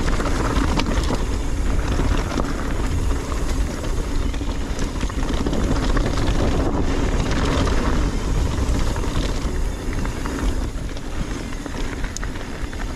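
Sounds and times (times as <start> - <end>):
bike and stone rattles: 0.0 - 12.9
bike tyres rolling on dirt: 0.0 - 12.9
wind buffeting microphone: 0.0 - 12.9.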